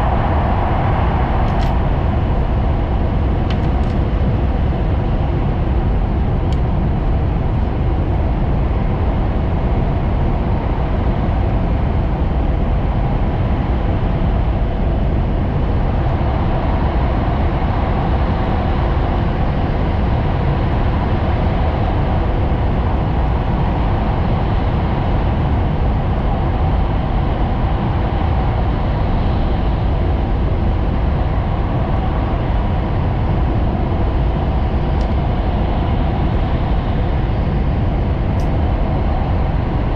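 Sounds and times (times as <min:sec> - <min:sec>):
train rumbling from inside cabin: 0:00.0 - 0:39.9.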